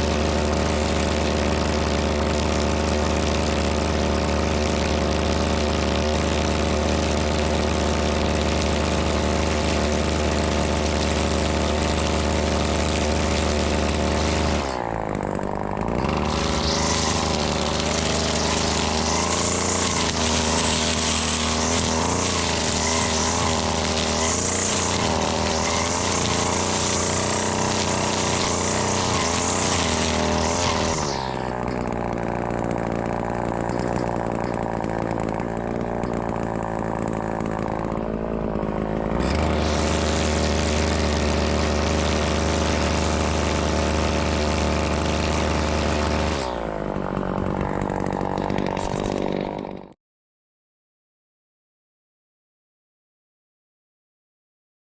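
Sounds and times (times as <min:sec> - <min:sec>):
trimmer line cutting hiss: 0:00.0 - 0:49.9
string trimmer engine running: 0:00.0 - 0:50.0.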